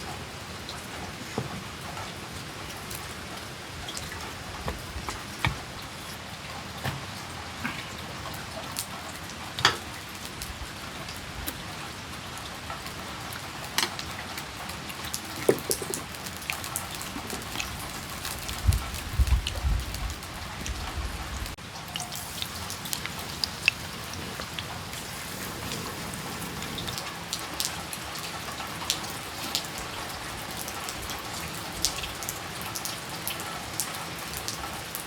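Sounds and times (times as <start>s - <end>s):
heavy raindrops striking: 0.0s - 35.0s
steady rain hiss: 0.0s - 35.0s.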